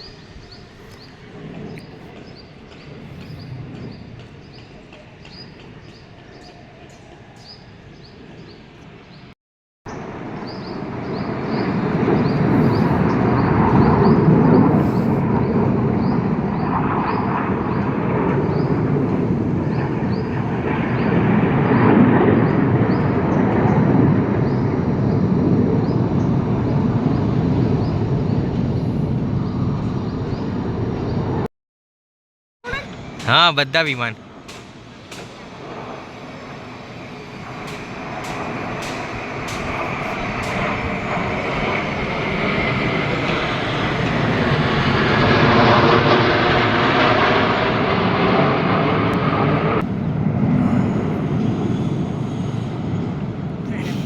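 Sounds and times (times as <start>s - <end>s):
jet aircraft roar: 0.0s - 9.2s, 9.9s - 31.5s, 32.6s - 54.0s.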